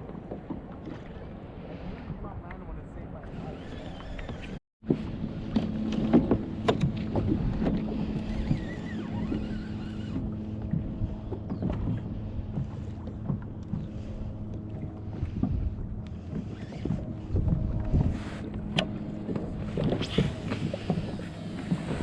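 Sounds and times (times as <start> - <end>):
knocks and creaks of boat: 0.0 - 22.0
low rumble of water and hull: 0.0 - 22.0.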